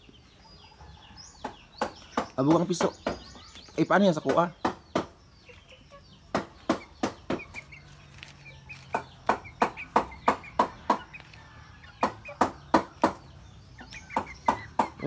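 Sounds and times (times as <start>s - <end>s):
chick peeping: 0.0s - 15.0s.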